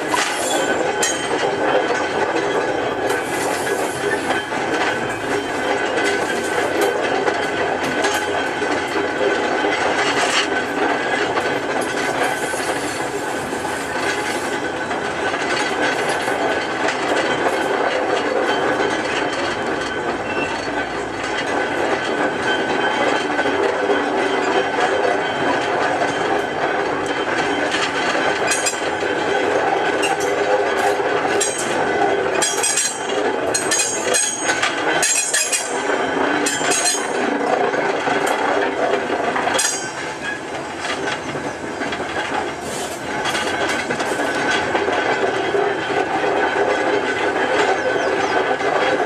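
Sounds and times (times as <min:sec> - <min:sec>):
diesel locomotive engines: 0:00.0 - 0:49.0
train wheels clattering over joints: 0:00.0 - 0:49.0.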